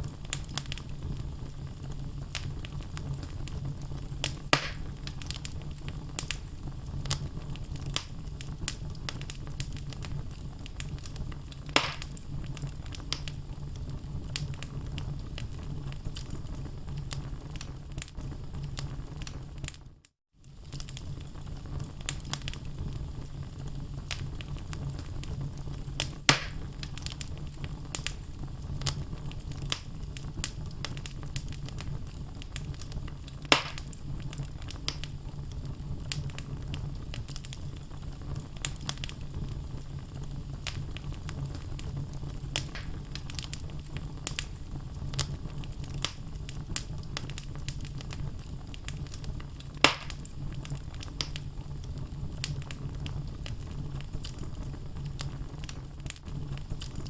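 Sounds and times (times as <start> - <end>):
fire rumbling: 0.0 - 57.0
loud fire pops: 0.0 - 57.0
wood fire crackling: 0.0 - 57.0.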